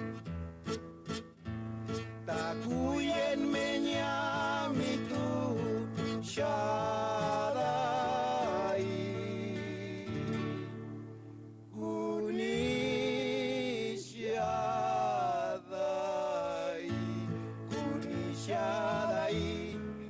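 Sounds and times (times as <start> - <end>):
acoustic guitar: 0.0 - 20.0
person singing slow folk song: 1.8 - 20.0.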